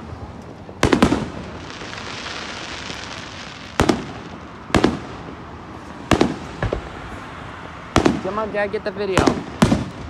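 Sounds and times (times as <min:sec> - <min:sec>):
fireworks hissing crackle: 0:00.0 - 0:10.0
fireworks sharp bangs: 0:00.0 - 0:10.0.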